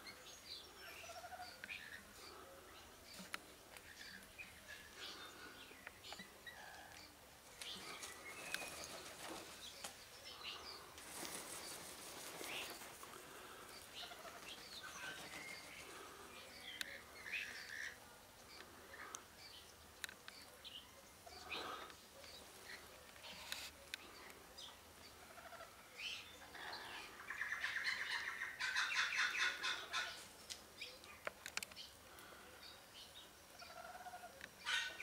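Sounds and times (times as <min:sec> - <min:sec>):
rustle: 0:00.0 - 0:35.0.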